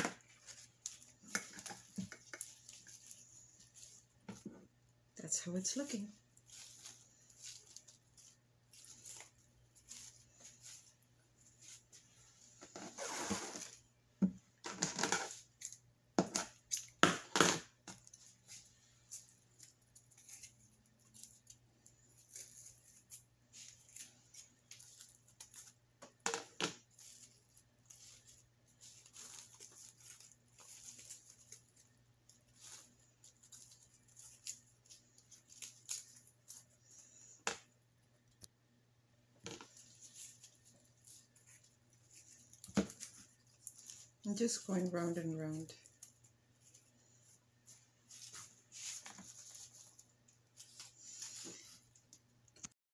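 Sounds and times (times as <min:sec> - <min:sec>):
rustling of artificial flowers: 0:00.1 - 0:15.9, 0:17.8 - 0:38.3, 0:39.4 - 0:52.6.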